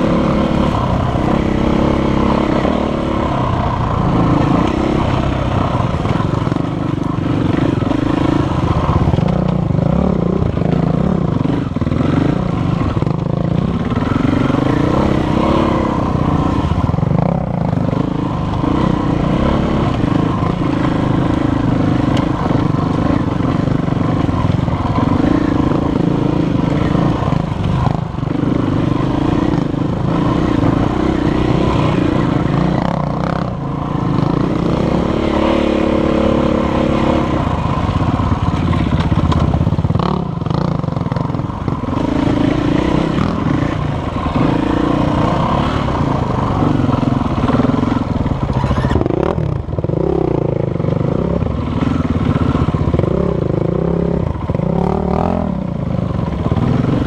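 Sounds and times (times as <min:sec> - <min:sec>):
motorcycle engine revving: 0:00.0 - 0:57.0
motorcycle rattling over bumps: 0:00.0 - 0:57.0.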